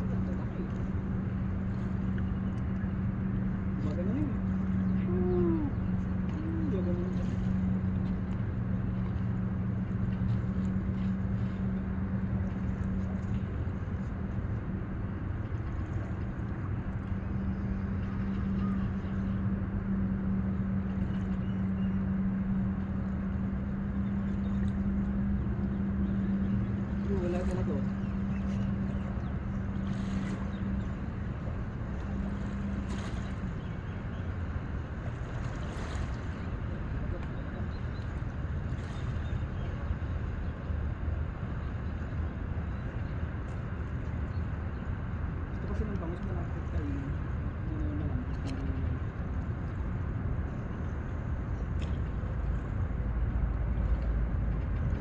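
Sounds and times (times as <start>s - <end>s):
low rumbling noise: 0.0s - 55.0s.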